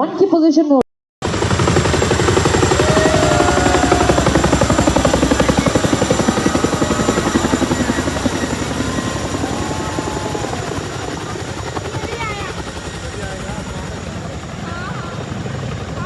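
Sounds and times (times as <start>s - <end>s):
helicopter rotor blades chopping: 1.2s - 16.0s.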